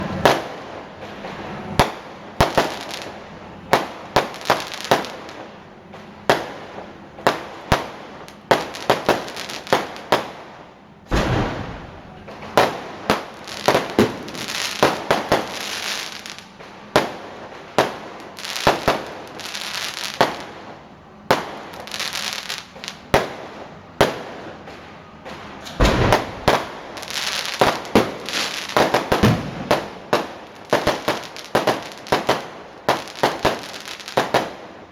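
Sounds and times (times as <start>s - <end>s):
fireworks bangs: 0.0s - 34.9s
fireworks crackling: 0.0s - 34.9s.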